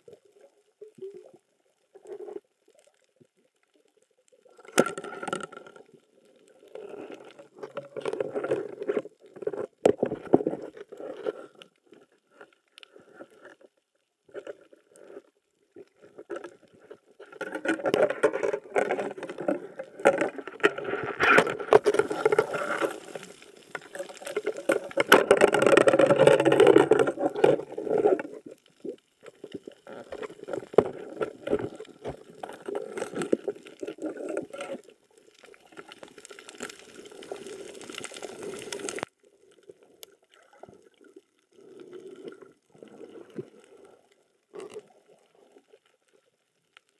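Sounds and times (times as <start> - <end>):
underwater water gurgling: 0.0 - 46.9.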